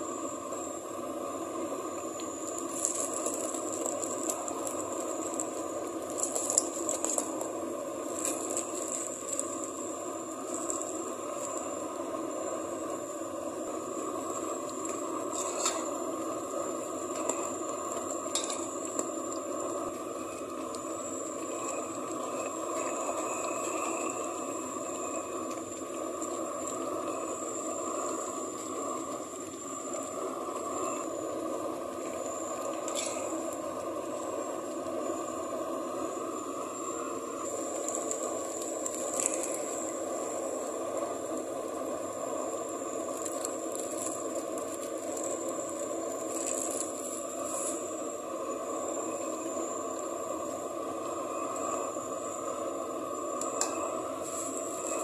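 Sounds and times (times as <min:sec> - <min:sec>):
broth boiling and bubbling: 0:00.0 - 0:55.0
steady hiss: 0:00.0 - 0:55.0.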